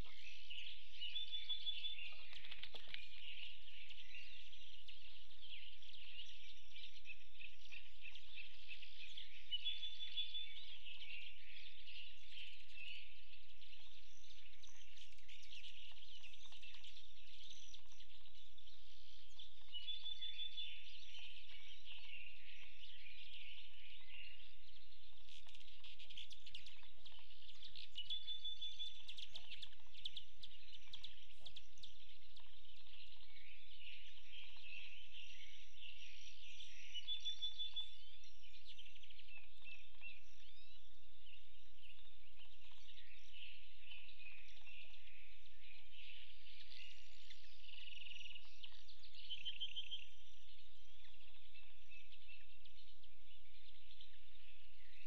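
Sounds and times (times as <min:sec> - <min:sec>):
birds singing and calling: 0:00.0 - 0:55.0.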